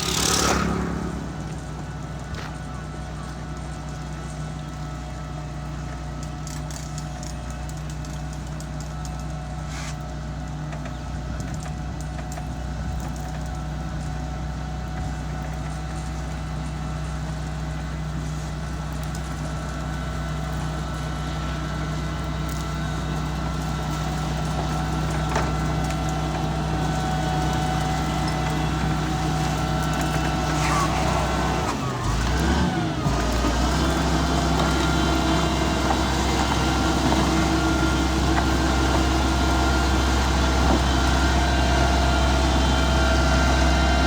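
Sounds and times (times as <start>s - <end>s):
diesel engine humming: 0.0s - 44.0s.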